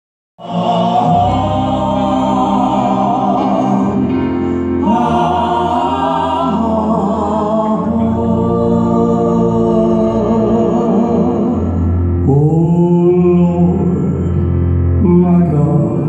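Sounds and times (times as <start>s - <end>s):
live gospel music: 0.4s - 16.0s.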